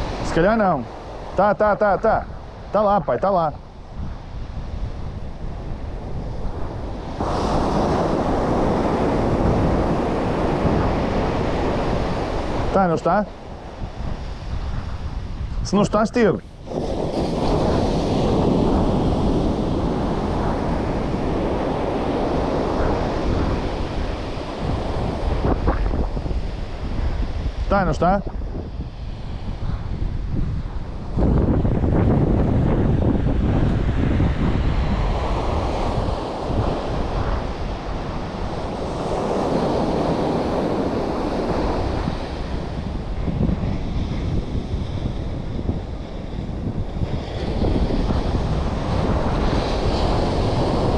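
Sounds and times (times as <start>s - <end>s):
surf washing on shore: 0.0s - 50.9s
wind buffeting microphone: 0.0s - 50.9s.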